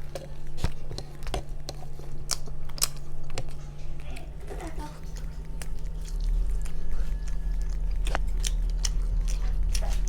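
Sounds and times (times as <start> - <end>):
person chewing food: 0.0 - 10.0
steady low hum: 0.0 - 10.0.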